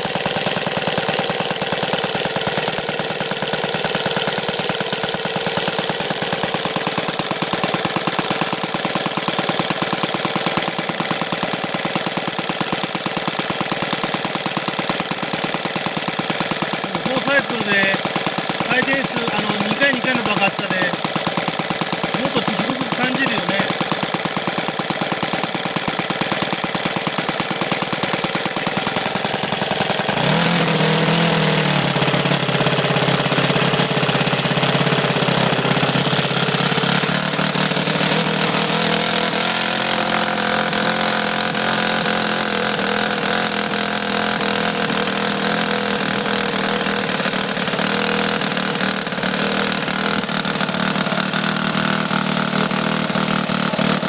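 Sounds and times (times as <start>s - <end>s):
model engine running: 0.0s - 54.0s.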